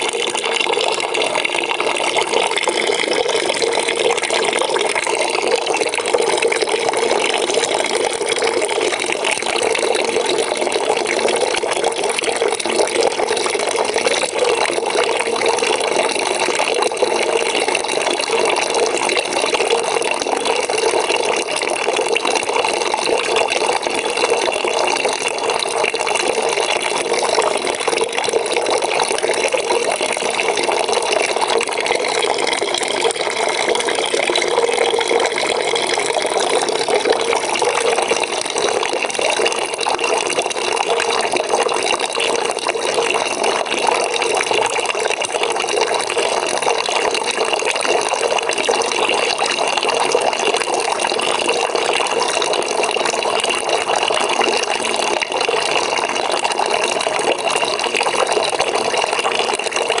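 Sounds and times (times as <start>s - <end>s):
tap water filling a bucket: 0.0s - 60.0s.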